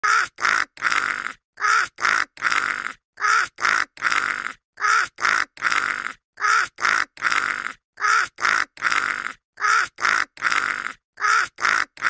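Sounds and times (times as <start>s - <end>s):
cartoon crow cawing: 0.0s - 12.0s.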